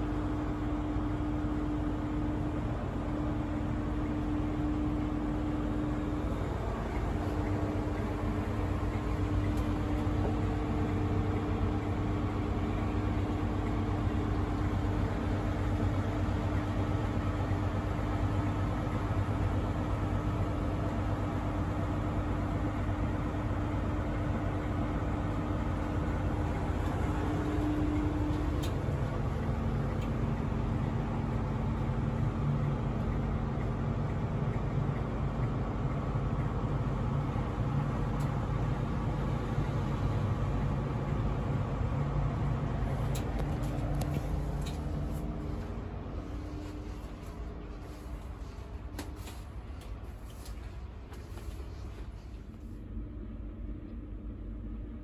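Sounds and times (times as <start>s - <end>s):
idling train low hum: 0.0s - 55.0s.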